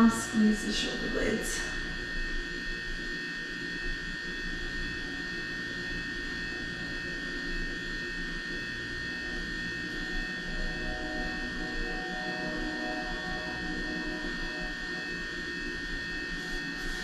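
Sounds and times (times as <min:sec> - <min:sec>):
background hum: 0:00.0 - 0:17.0
high-pitched whine: 0:00.0 - 0:17.0.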